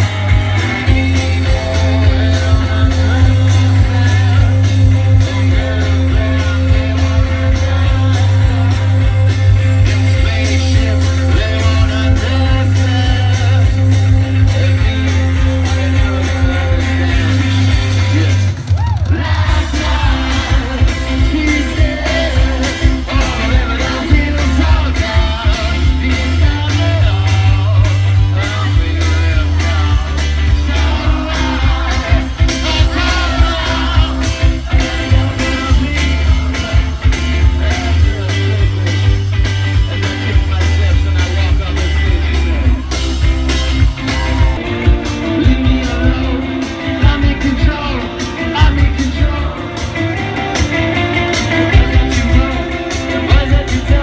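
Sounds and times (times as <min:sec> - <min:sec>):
person singing: 0:00.0 - 0:18.5, 0:19.1 - 0:42.9, 0:43.8 - 0:54.0
bass guitar: 0:00.0 - 0:54.0
drums: 0:00.0 - 0:54.0
electric guitars: 0:00.0 - 0:54.0.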